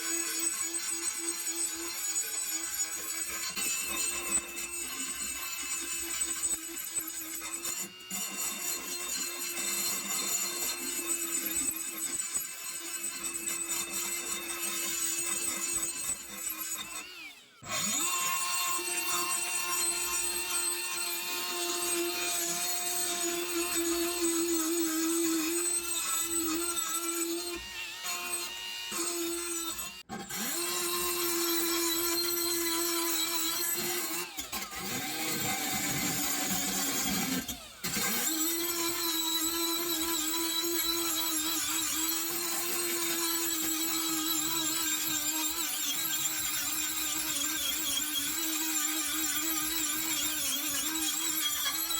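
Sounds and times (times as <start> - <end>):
power tool whining: 0.0 - 51.9.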